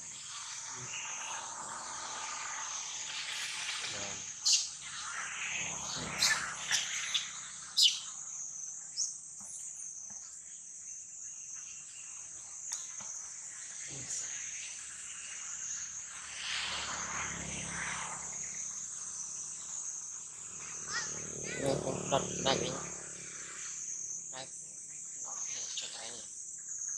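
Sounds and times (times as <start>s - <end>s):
insect chorus: 0.0s - 26.9s.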